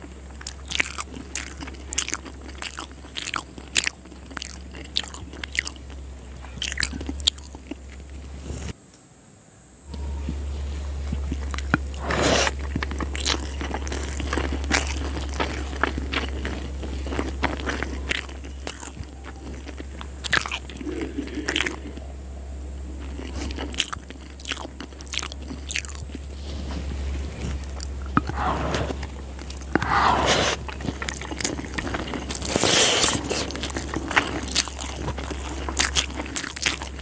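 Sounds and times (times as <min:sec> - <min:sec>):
chewing with wet mouth smacks: 0:00.0 - 0:08.7, 0:11.0 - 0:22.0, 0:22.8 - 0:26.3, 0:27.4 - 0:37.0
steady low hum: 0:00.0 - 0:37.0.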